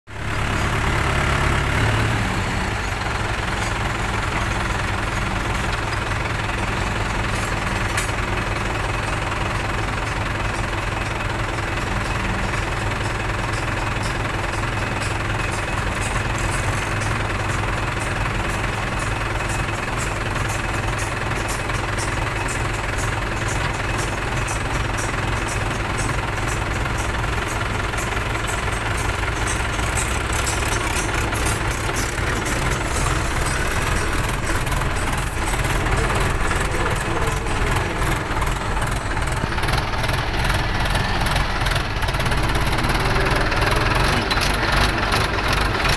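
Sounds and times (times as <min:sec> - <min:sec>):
tractor diesel engine clattering: 0:00.1 - 0:45.9.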